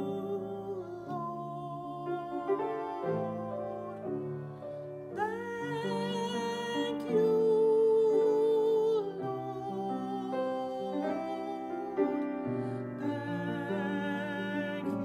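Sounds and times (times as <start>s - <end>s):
grand piano: 0.0s - 15.0s
woman singing: 0.0s - 15.0s.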